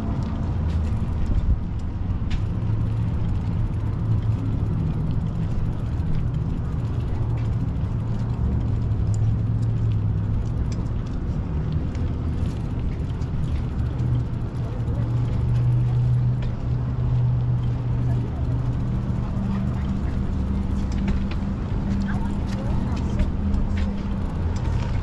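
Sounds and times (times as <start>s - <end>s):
bicycle riding rumble: 0.0s - 25.0s.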